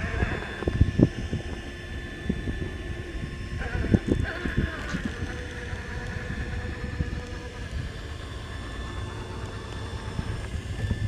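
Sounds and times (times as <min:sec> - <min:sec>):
electric rc car running: 0:00.0 - 0:11.0.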